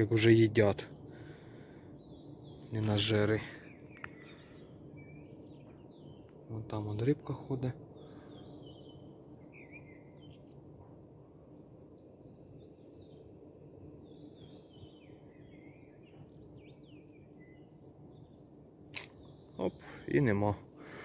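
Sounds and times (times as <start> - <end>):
faint birdsong chirps and whistles: 0.0 - 21.0
low background rumble: 0.0 - 21.0.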